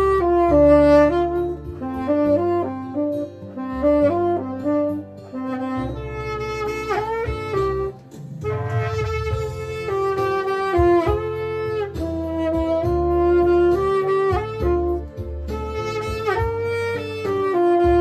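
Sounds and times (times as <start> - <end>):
instrumental ballad music: 0.0 - 18.0.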